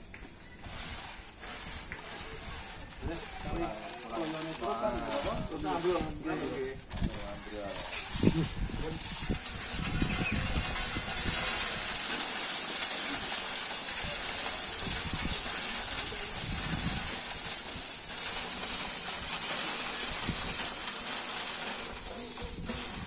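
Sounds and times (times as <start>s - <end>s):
coffee grinder whirring: 0.6s - 23.0s.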